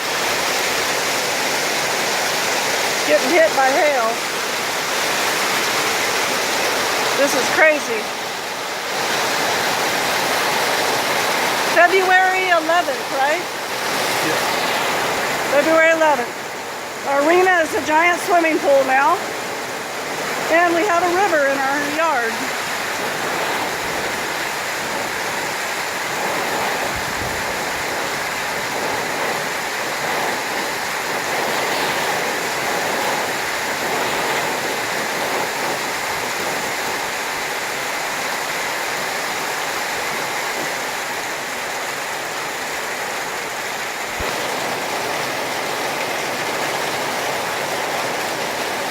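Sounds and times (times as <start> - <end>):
heavy rain pouring: 0.0 - 48.9
runoff water streaming: 0.0 - 48.9.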